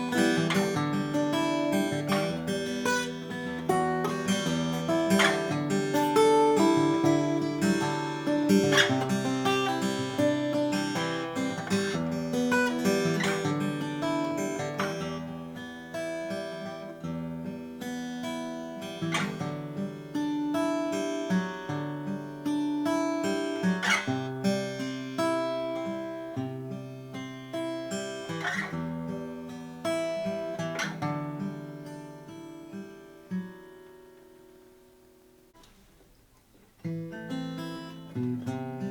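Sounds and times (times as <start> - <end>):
acoustic guitar playing: 0.0 - 38.9.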